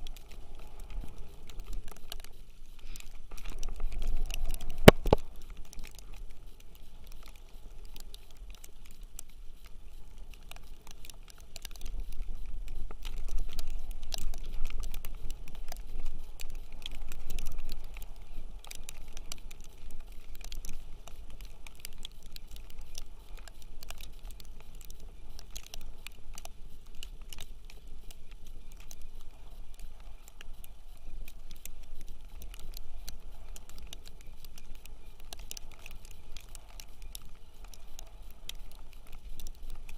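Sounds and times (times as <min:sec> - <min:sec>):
snow ticking on camera: 0:00.0 - 0:39.9.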